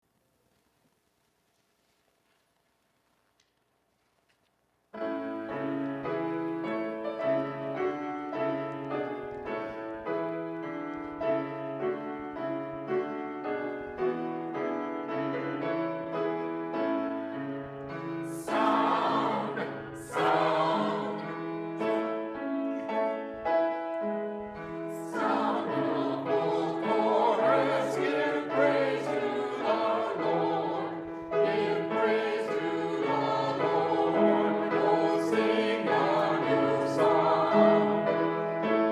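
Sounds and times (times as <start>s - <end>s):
church choir singing: 5.0s - 38.9s.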